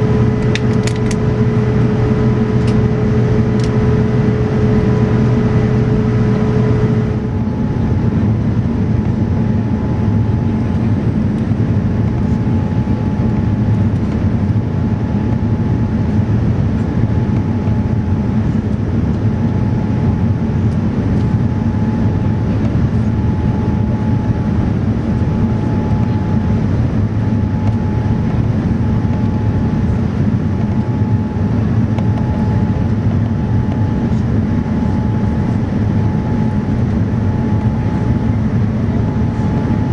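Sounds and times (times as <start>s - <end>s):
airliner cabin engine noise: 0.0s - 39.9s.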